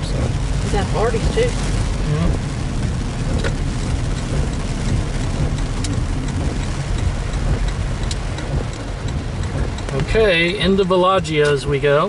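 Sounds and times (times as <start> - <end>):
heavy rain on a car: 0.0 - 12.0
raindrop ticks: 0.0 - 12.0.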